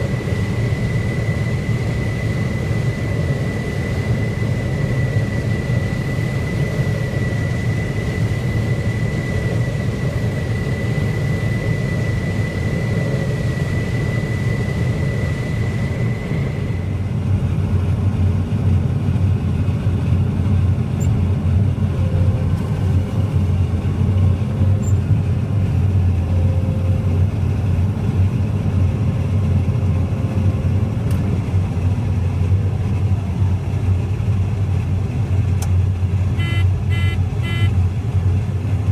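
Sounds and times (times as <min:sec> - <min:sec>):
high whine: 0:00.0 - 0:18.5, 0:20.9 - 0:38.9
farm machinery engine rumble: 0:00.0 - 0:38.9.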